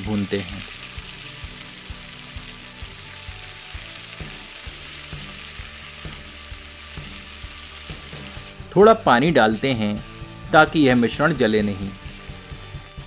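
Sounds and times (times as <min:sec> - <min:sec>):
paste sizzling in hot oil: 0:00.0 - 0:08.6, 0:09.4 - 0:13.0.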